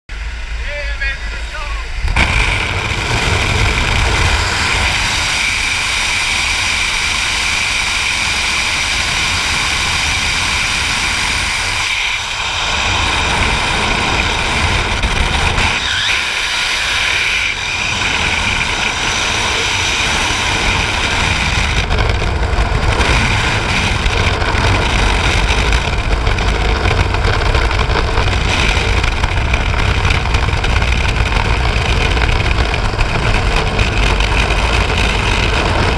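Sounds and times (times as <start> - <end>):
freefall wind buffeting microphone: 0.1 - 35.9.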